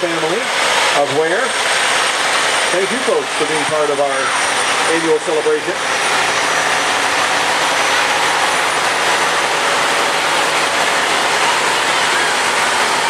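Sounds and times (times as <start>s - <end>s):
trucks passing close by: 0.0s - 13.0s.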